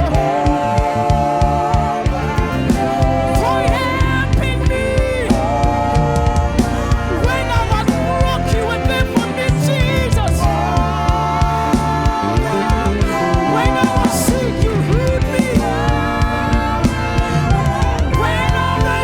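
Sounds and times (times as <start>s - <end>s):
band with drum and bass beat: 0.0s - 19.0s
voices singing held notes: 0.0s - 19.0s.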